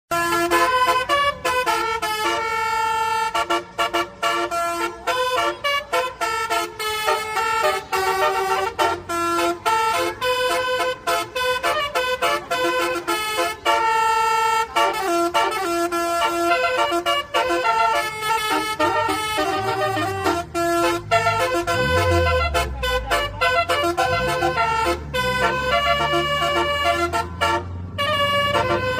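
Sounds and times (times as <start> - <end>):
multi-tone bus horn melody: 0.1 - 28.9.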